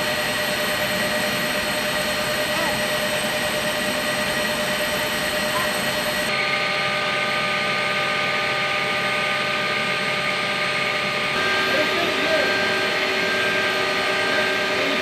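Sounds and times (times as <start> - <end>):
helicopter turbine whine: 0.0 - 15.0.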